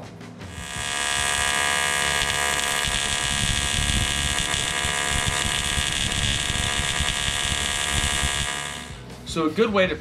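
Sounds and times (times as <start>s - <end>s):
welding arc buzzing: 0.5s - 9.0s.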